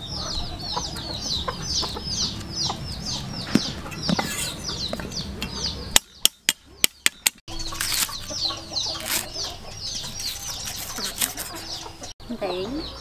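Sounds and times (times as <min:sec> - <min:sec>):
chickens chirping and clucking: 0:00.0 - 0:13.0.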